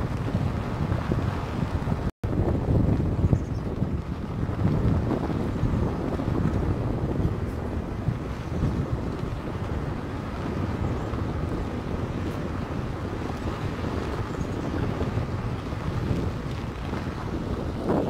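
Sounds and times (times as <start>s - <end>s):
vehicle driving on gravel: 0.0s - 18.0s
wind noise on microphone: 0.0s - 18.0s.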